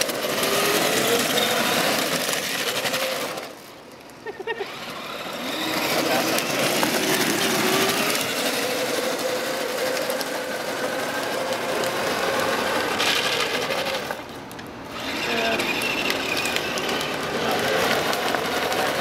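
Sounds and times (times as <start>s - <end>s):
toy car electric motor whirring: 0.0s - 3.6s, 4.4s - 14.3s, 14.9s - 19.0s
plastic wheels rolling on asphalt: 0.0s - 19.0s.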